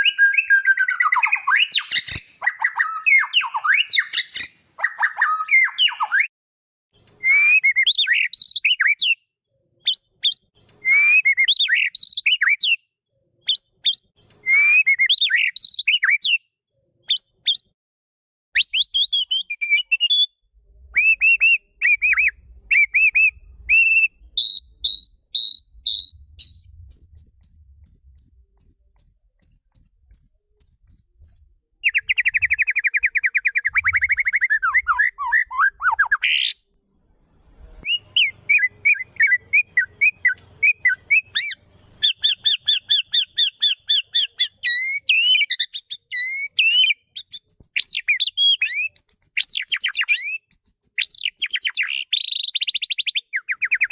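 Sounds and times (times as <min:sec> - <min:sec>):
bird singing whistled song: 0:00.0 - 0:06.3, 0:07.0 - 0:17.8, 0:18.6 - 0:53.9.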